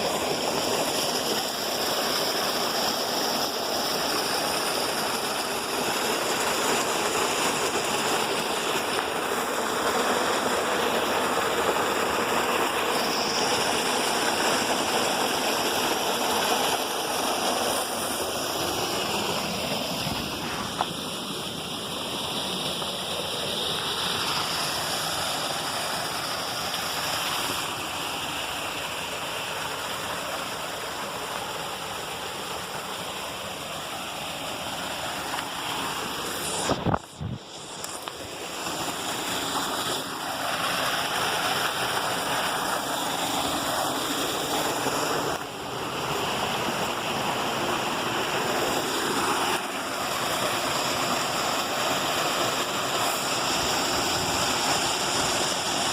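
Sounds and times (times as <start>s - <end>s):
water rushing over cascades: 0.0s - 55.9s.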